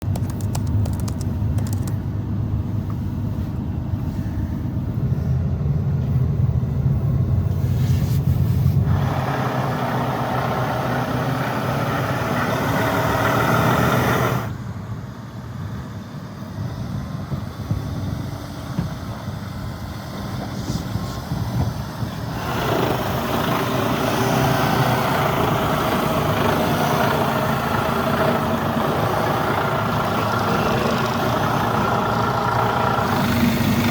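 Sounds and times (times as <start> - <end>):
road noise: 0.0 - 33.9
truck engine rumble: 0.0 - 33.9.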